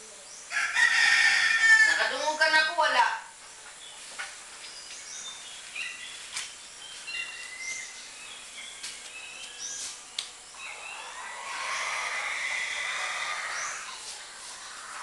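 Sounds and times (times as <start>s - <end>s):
birds chirping: 0.0s - 15.0s
low background noise: 0.0s - 15.0s.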